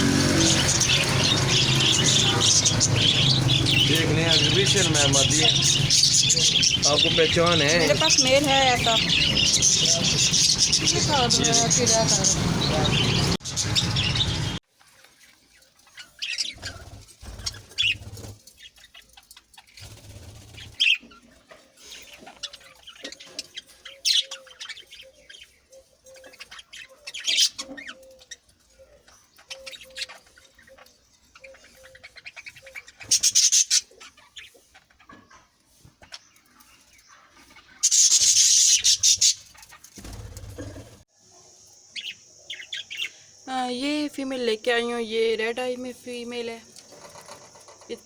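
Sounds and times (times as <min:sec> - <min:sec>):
caged birds chirping: 0:00.0 - 0:48.0.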